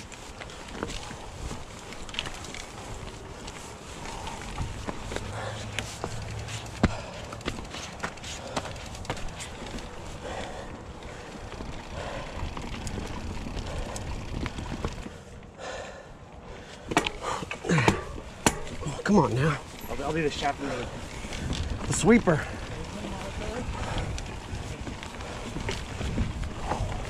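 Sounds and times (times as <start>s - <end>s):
bike rattling over rocks: 0.0s - 15.4s, 16.7s - 27.0s
tyres rolling noise: 0.0s - 27.0s.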